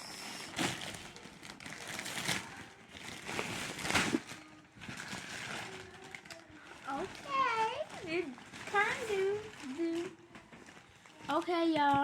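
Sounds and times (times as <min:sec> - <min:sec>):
packaging crinkling and rustling: 0:00.2 - 0:12.0.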